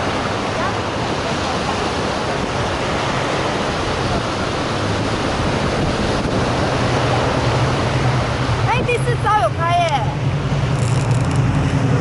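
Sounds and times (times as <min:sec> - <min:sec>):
heavy surf: 0:00.0 - 0:12.0
wind blowing across microphone: 0:00.0 - 0:12.0.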